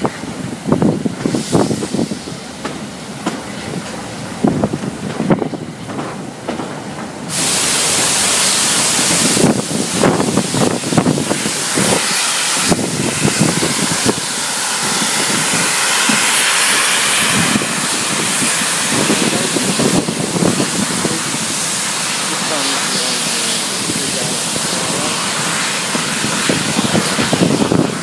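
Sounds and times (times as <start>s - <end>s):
train rushing hiss: 0.0s - 28.0s
train thumps and rattles: 0.0s - 28.0s.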